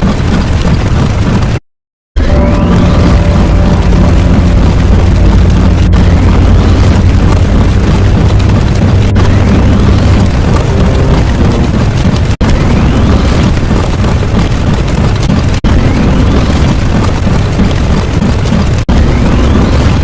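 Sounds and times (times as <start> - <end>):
rumbling explosion sound effect: 2.2 - 20.0.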